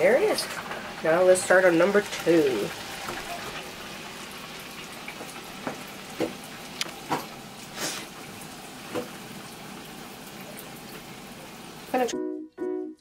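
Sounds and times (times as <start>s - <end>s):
hot oil sizzling: 0.0s - 12.1s.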